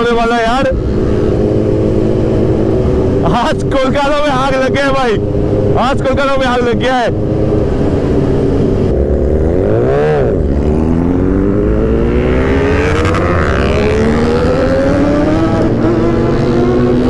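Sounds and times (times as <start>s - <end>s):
motorcycle engine revving: 0.0s - 5.8s, 6.7s - 17.0s.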